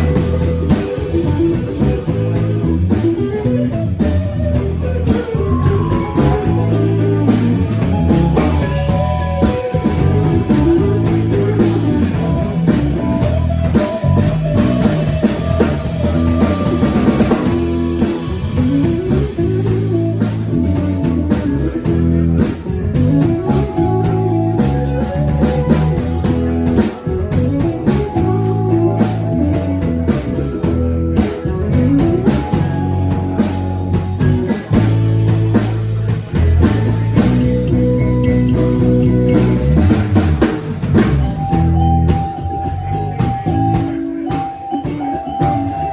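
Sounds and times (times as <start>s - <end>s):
bass: 0.0s - 45.9s
drum kit: 0.0s - 45.9s
electric guitar: 0.0s - 45.9s.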